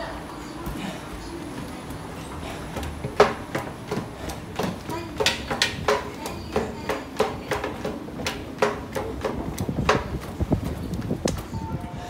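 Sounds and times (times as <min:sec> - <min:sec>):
running footsteps on hard floor: 0:00.0 - 0:11.8.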